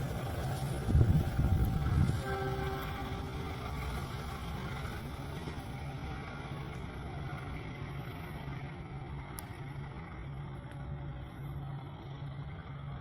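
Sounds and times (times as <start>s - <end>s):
traffic hiss: 0.0s - 12.6s
distant vehicle engine rumble: 0.0s - 13.0s
pulsing low hum: 0.0s - 13.0s.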